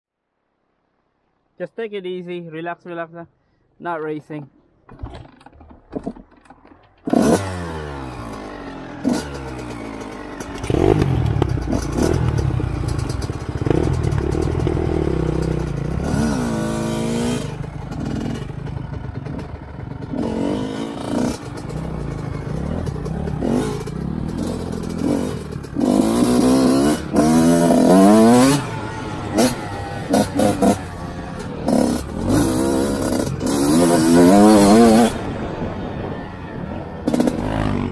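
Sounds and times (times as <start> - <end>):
dirt bike engine revving: 7.1 - 37.9.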